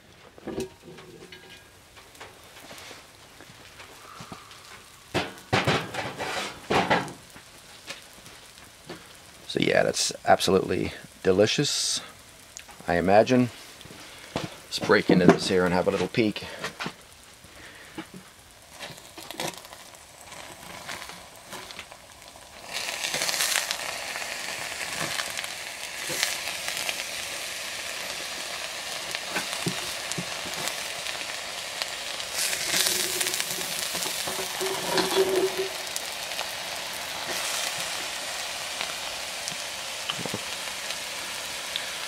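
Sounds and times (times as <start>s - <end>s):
food sizzling in a pot: 0.0s - 42.0s.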